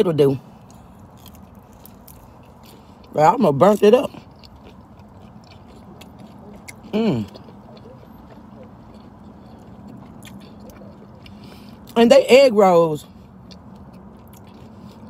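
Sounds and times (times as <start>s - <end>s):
person chewing: 0.4s - 15.0s.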